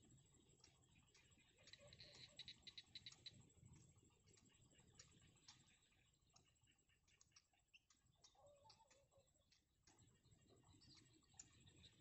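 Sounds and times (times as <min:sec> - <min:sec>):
faint ticks and clicks: 0:00.0 - 0:12.0.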